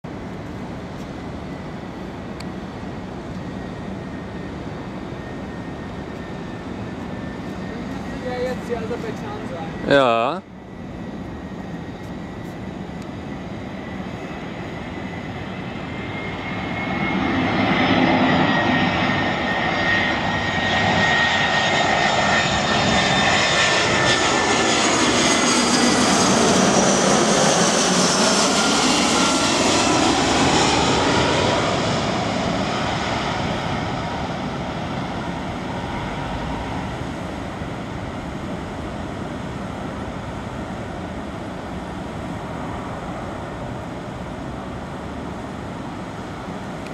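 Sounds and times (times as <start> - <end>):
jet airliner passing overhead: 0.1 - 46.9.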